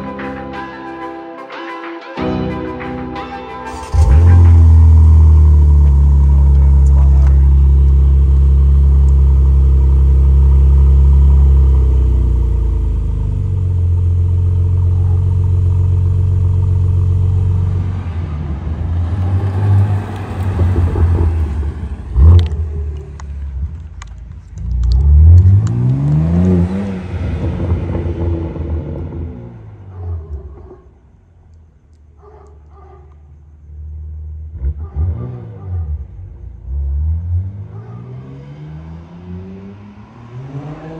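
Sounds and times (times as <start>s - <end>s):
car engine idling and revving: 3.7s - 32.2s, 33.1s - 40.9s.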